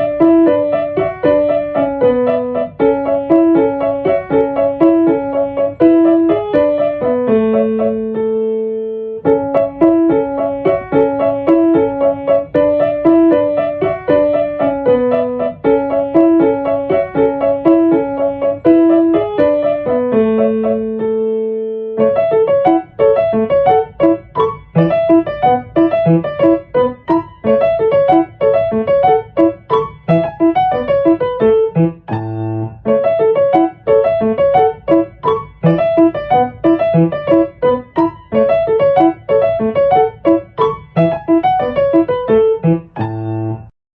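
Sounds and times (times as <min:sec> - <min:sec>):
piano playing rhythmic melody: 0:00.0 - 0:43.8.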